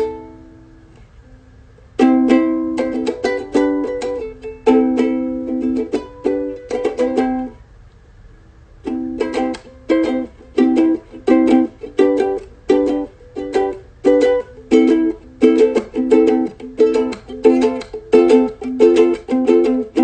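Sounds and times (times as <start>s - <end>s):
ukulele strumming chords: 0.0s - 1.2s, 1.8s - 7.6s, 8.8s - 20.0s.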